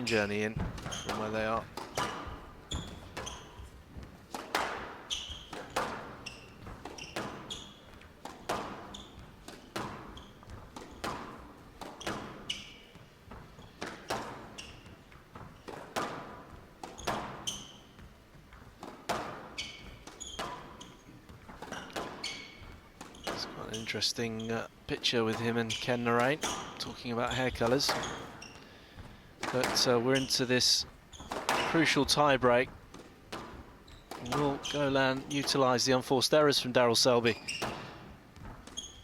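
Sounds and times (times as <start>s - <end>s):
squash ball hitting rackets and walls: 0.0s - 35.8s, 37.3s - 39.0s
shoes squeaking on court floor: 0.0s - 39.0s.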